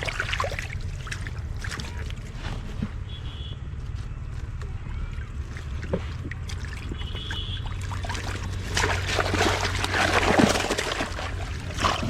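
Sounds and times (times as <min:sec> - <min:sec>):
water splashing and trickling: 0:00.0 - 0:03.0, 0:04.4 - 0:12.0.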